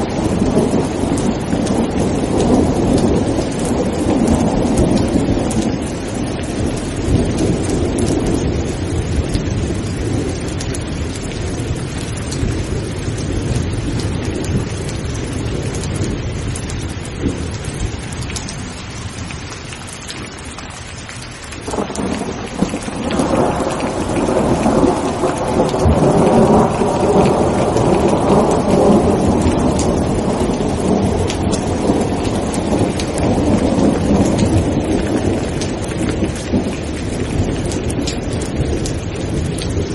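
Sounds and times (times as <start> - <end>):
thunder rumbling: 0.0 - 20.4, 21.6 - 39.9
heavy rain: 0.0 - 39.9.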